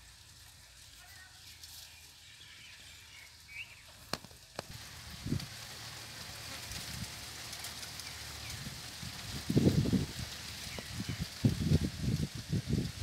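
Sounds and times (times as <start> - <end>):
footsteps through dry grass and gravel: 0.0 - 13.0.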